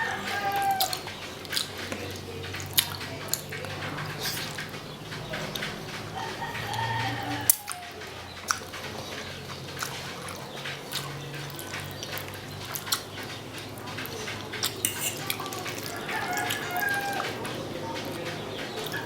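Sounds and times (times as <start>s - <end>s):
wet chewing and mouth smacks: 0.0s - 19.0s.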